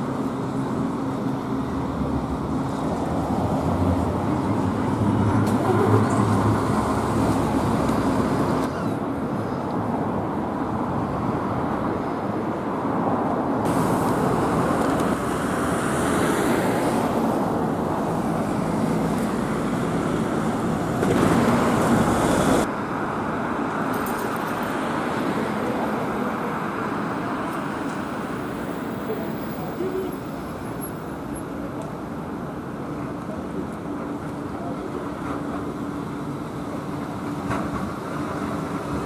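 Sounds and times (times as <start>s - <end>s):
bus driving past: 0.0s - 9.5s, 13.6s - 39.0s
road traffic noise: 0.0s - 39.0s.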